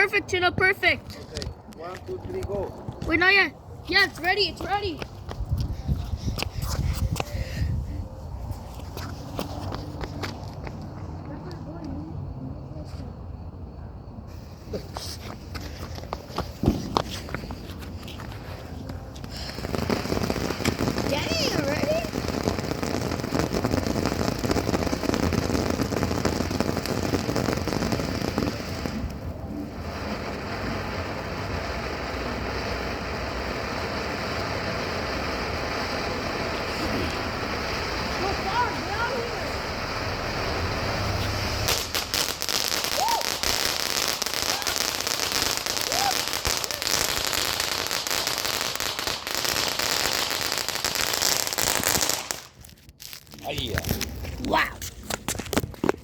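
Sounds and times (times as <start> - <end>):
firework crackling and hissing: 0.0 - 13.2, 14.2 - 56.0.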